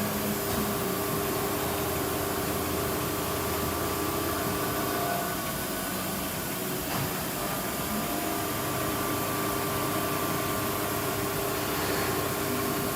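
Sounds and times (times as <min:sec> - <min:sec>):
machining centre humming: 0:00.0 - 0:12.9.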